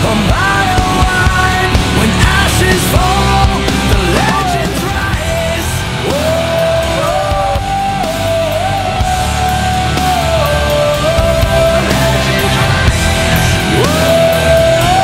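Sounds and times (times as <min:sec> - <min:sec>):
heavy rock band: 0:00.0 - 0:15.0
person singing: 0:00.0 - 0:15.0.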